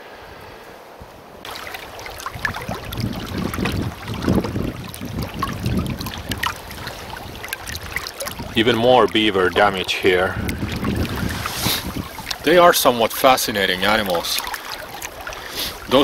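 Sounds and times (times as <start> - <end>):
small water splashes: 1.4 - 16.0
water lapping: 1.4 - 16.0
wind buffeting microphone: 1.4 - 16.0.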